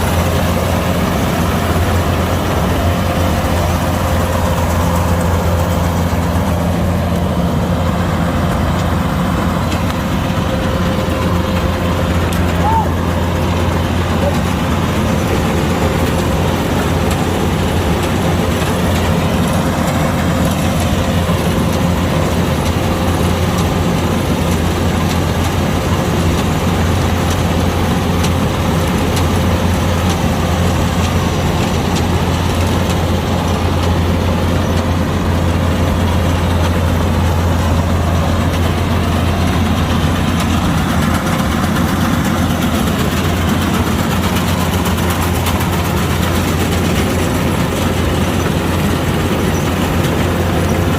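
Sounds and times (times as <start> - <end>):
combine harvester engine humming: 0.0 - 50.9.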